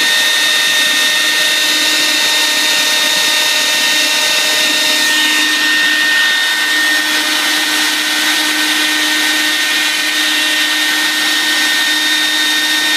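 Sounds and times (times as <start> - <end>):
dust extraction running: 0.0 - 12.9
router spindle high-pitched whine: 0.0 - 12.9.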